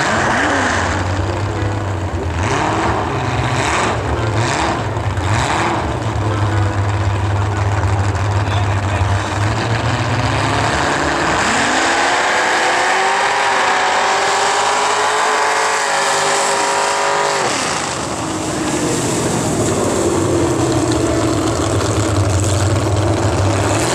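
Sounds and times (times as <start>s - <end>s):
truck engine revving hard: 0.0s - 23.9s.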